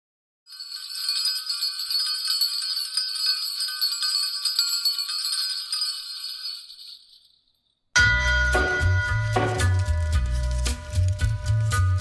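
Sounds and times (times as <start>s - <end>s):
bells jangling: 0.5s - 11.0s.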